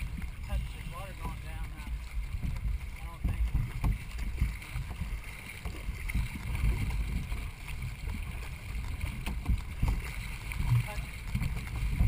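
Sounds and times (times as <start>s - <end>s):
paddles working the water: 0.0s - 12.0s
water rushing along hull: 0.0s - 12.0s
wind rumble on microphone: 0.0s - 12.0s.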